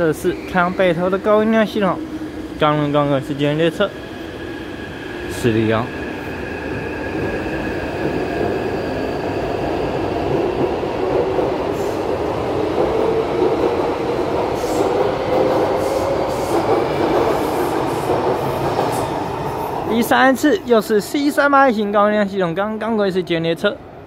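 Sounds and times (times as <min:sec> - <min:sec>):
steel wheels rumbling on rail: 0:00.0 - 0:21.1.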